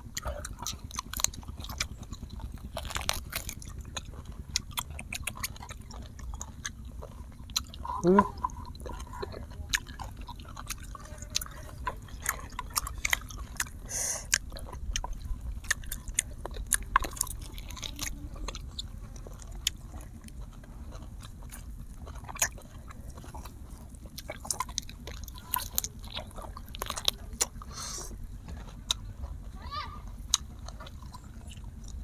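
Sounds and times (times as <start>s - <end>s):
chewing and biting meat: 0.0s - 32.0s.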